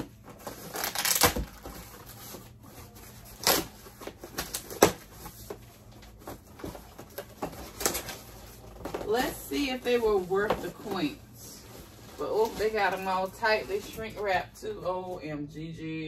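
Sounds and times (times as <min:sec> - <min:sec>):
cardboard rustling: 0:00.0 - 0:14.4.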